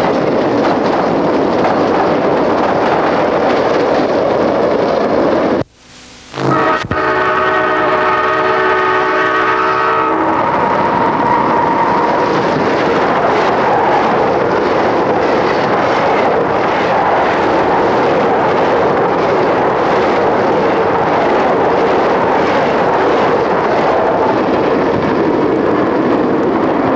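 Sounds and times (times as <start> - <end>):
steel wheels rushing on rail: 0.0 - 5.7, 6.4 - 26.9
train passing at speed: 0.0 - 5.7, 6.5 - 26.9.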